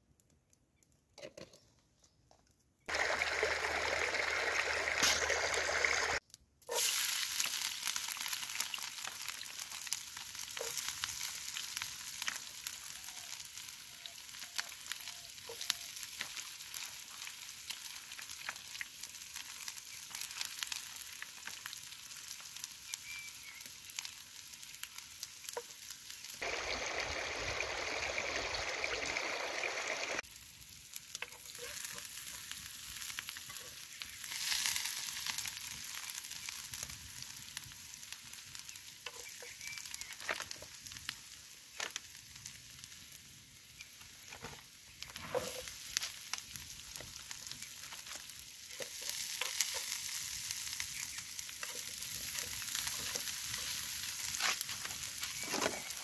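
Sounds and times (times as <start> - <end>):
onions sizzling in a pan: 2.9 - 56.0.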